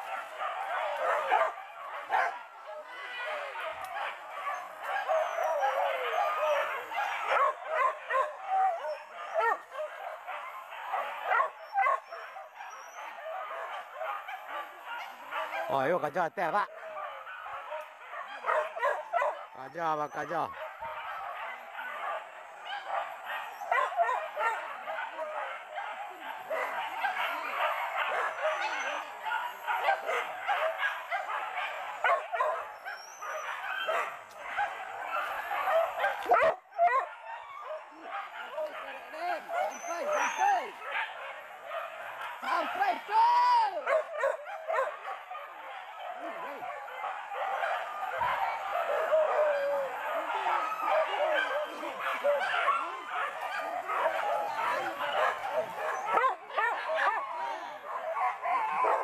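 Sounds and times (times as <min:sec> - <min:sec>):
dogs yelping and baying: 0:00.0 - 0:59.0.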